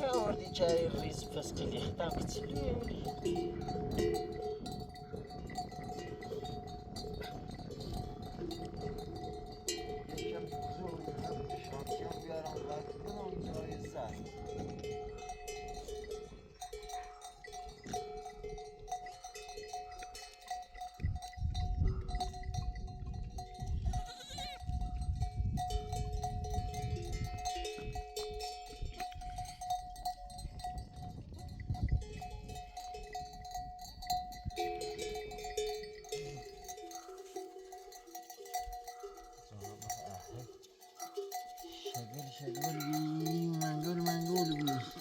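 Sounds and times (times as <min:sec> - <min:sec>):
animal bells ringing and clanking: 0:00.0 - 0:45.0.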